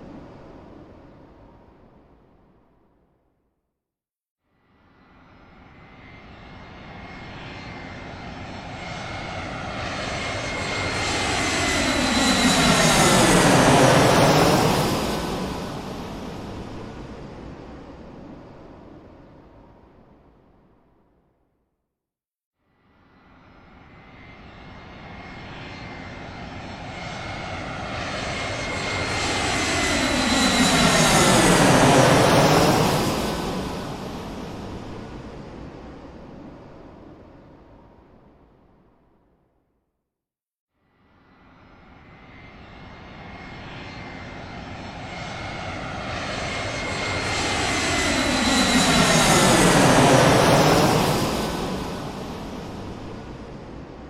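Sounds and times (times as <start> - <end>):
airplane engine overhead: 0.0 - 2.8, 4.6 - 20.7, 22.8 - 38.9, 40.9 - 54.0.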